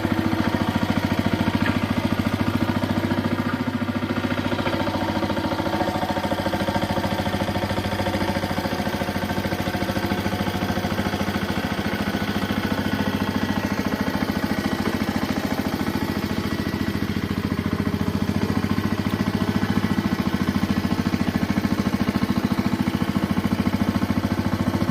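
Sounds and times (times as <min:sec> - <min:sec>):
power tiller diesel engine running: 0:00.0 - 0:24.9.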